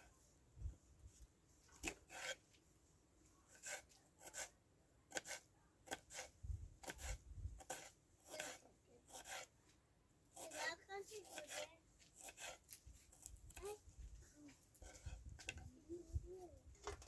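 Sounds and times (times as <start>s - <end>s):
quiet scraping and rubbing: 0.0s - 9.8s, 10.4s - 17.0s.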